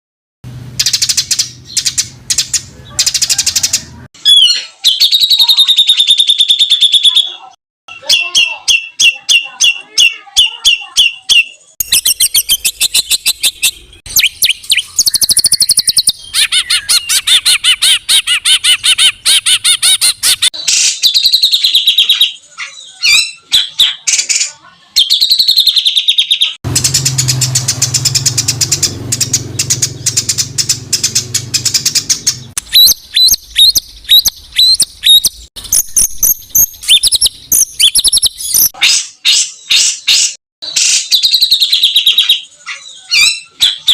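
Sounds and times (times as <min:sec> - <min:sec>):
songbird trilling song: 0:00.8 - 0:24.4, 0:25.0 - 0:43.9.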